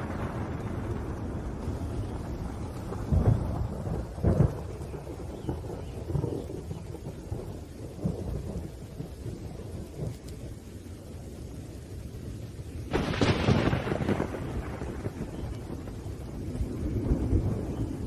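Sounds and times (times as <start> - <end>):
loud thunderclap: 0.0 - 10.5, 12.9 - 18.0
low rolling thunder: 0.0 - 18.0
rain: 0.0 - 18.0.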